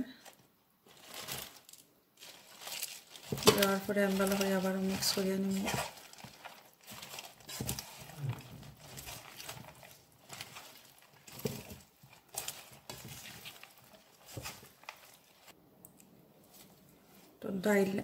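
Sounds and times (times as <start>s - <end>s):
hand squishing leaves in pot: 0.2s - 18.0s.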